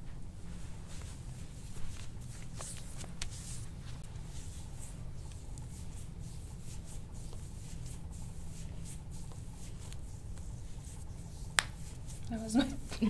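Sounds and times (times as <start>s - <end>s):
soft rubbing and rustling: 0.0s - 13.0s
steady low hum: 0.0s - 13.0s.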